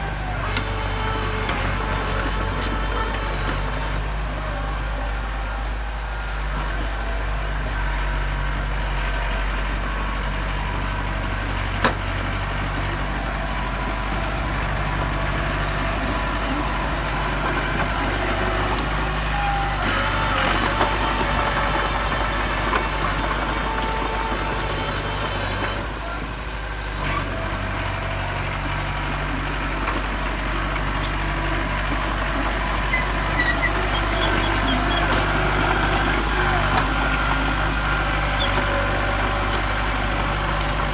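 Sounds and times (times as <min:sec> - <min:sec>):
heavy machinery diesel engine running: 0:00.0 - 0:40.9.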